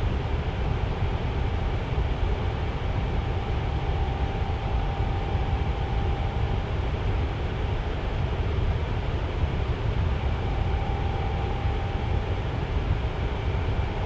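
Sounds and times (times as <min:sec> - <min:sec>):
tower fan running: 0:00.0 - 0:14.0.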